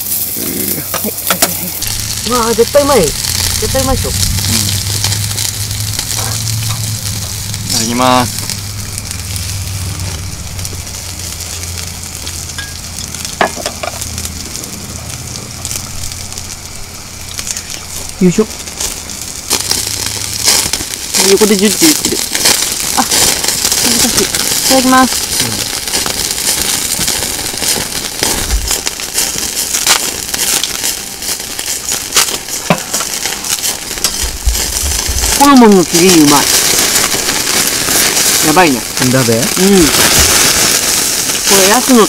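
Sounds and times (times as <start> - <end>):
fat spitting and crackling: 0.0 - 12.4, 17.2 - 42.0
meat sizzling on a grill: 0.0 - 42.0.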